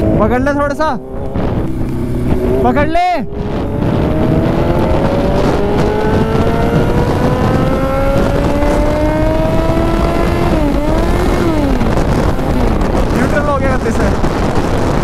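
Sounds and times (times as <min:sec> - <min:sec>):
wind over microphone: 0:00.0 - 0:15.0
motorcycle engine pulling: 0:01.0 - 0:14.8.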